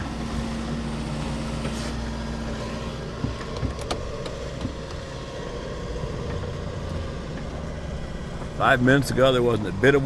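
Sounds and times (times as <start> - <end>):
engine running at low speed: 0.0 - 10.0.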